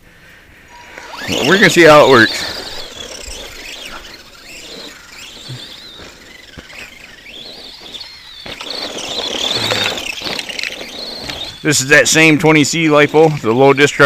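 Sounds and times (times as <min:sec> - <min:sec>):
rc truck motor whining: 0:00.6 - 0:14.0.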